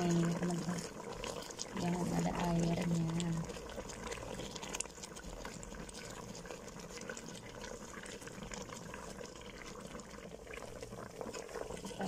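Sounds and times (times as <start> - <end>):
curry sauce bubbling in a pot: 0.0 - 12.0.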